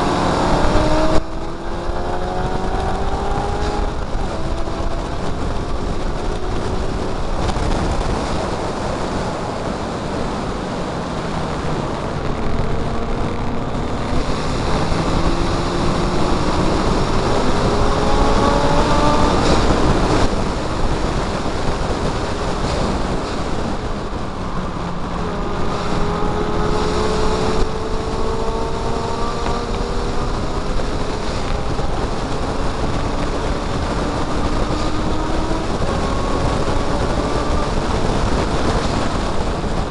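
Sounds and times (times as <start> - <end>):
race car engine revving: 0.0 - 39.9
wind noise on microphone: 0.0 - 39.9.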